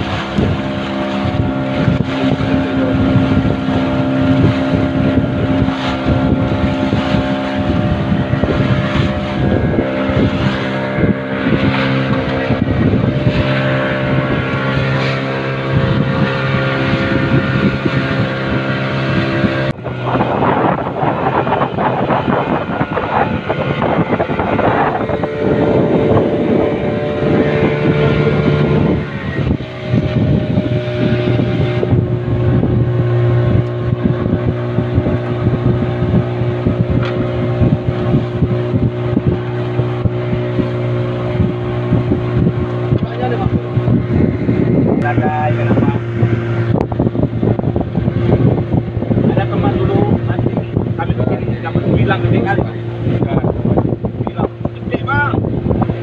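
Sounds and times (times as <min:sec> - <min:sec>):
boat engine running: 0:00.0 - 0:56.0
water noise: 0:00.0 - 0:56.0
wind: 0:00.0 - 0:56.0.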